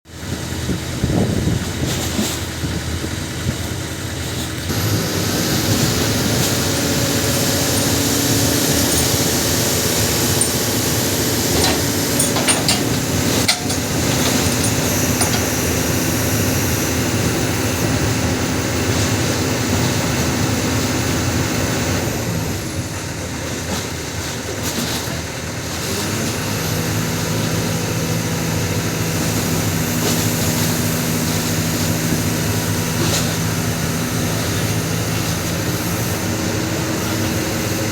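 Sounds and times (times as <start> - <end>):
excavator diesel engine running: 2.3 - 37.9.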